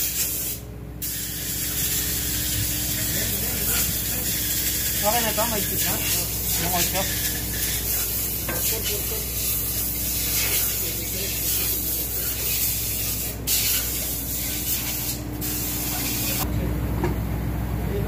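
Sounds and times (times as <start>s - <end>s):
machinery hiss: 0.0s - 16.4s
engine-room machinery hum: 0.0s - 18.0s.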